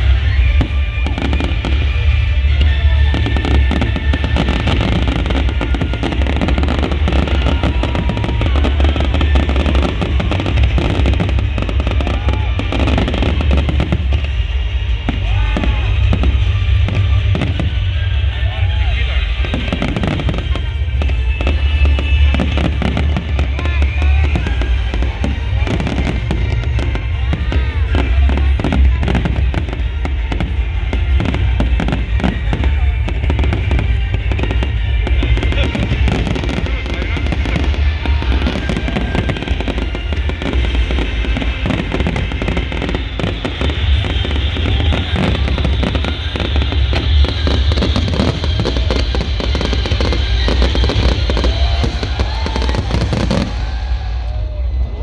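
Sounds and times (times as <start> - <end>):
fireworks bursting: 0.0 - 55.0
music playing: 0.0 - 55.0.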